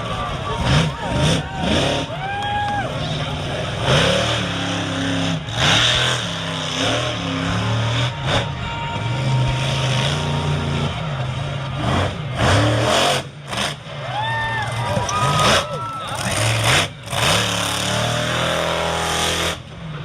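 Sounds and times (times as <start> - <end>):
loud rushes of noise: 0.0 - 20.0
truck engine running: 0.0 - 20.0.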